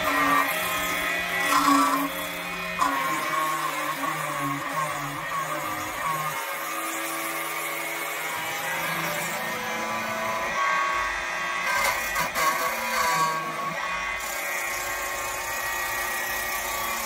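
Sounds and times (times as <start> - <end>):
cutter shaving wood: 0.0 - 17.0
machine motor whine: 0.0 - 17.0.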